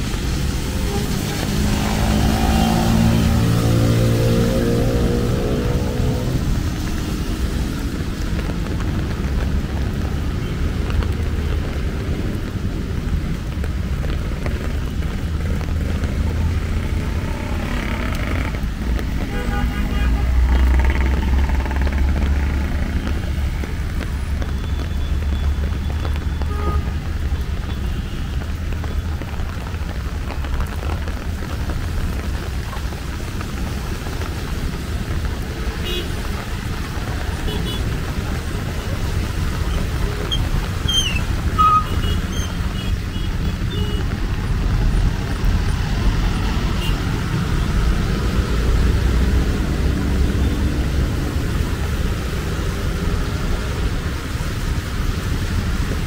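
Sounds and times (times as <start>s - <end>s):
traffic engine rumble: 0.0s - 56.0s
tyre hiss on wet street: 0.0s - 56.0s.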